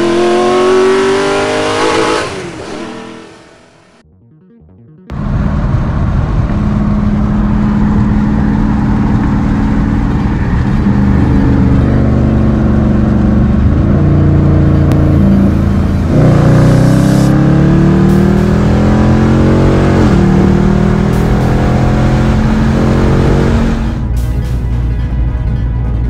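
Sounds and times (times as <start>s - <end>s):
car engine running and revving: 0.0s - 4.0s, 5.1s - 26.0s.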